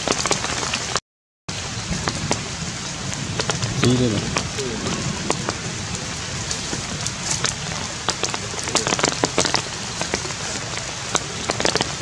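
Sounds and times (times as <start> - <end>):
rain falling on leaves: 0.0 - 12.0.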